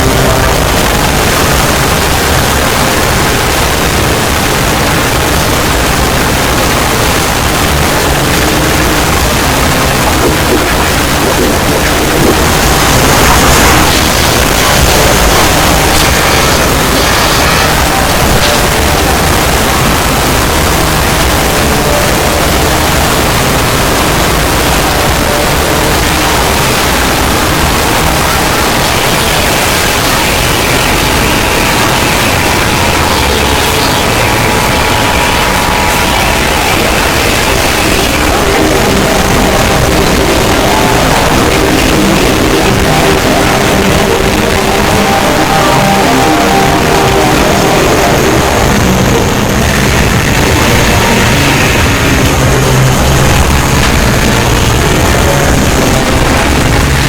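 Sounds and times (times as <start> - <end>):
loud rushing hiss: 0.0 - 57.0
static-like noise: 0.0 - 57.0.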